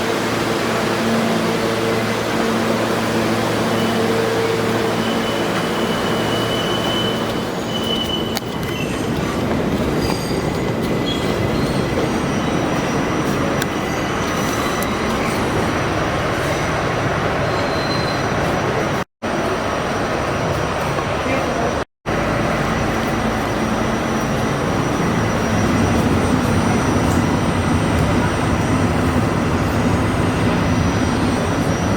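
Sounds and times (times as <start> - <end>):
subway rail rumble: 0.0 - 31.9
high wheel squeal: 0.2 - 31.9.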